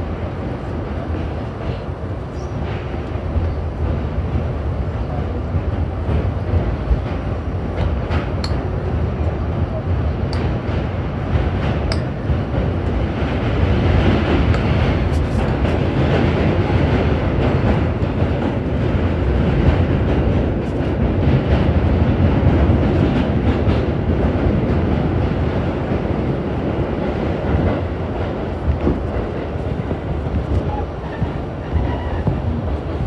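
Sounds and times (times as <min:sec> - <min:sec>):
subway train rumbling on rails: 0:00.0 - 0:33.0.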